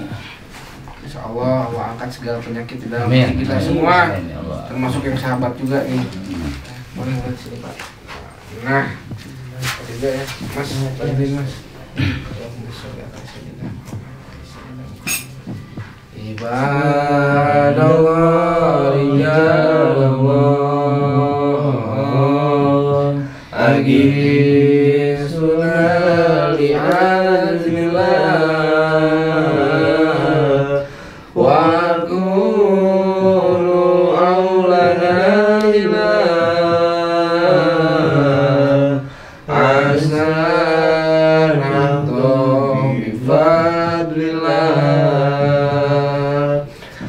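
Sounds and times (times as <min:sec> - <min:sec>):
man chanting prayer recitation: 0:01.0 - 0:46.8.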